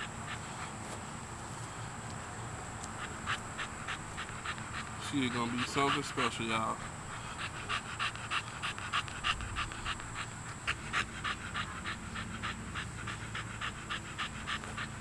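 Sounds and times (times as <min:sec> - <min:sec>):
puppy panting: 0:00.0 - 0:15.0.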